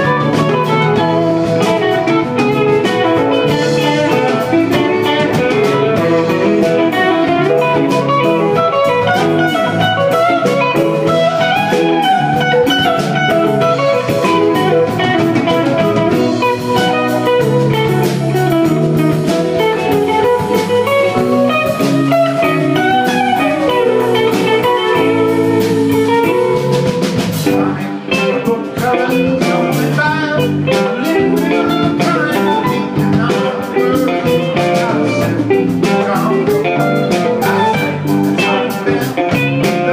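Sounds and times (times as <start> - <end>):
bass guitar: 0.0 - 39.9
drum kit: 0.0 - 39.9
electric guitars: 0.0 - 39.9
keyboard: 0.0 - 39.9.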